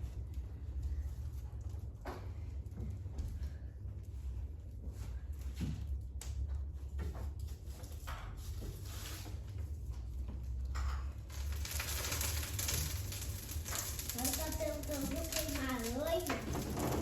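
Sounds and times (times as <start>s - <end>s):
wood fire crackling and hissing: 0.0s - 17.0s.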